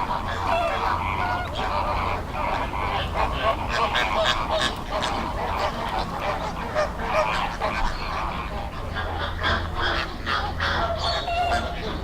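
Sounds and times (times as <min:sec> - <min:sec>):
flamingos honking: 0:00.0 - 0:12.0.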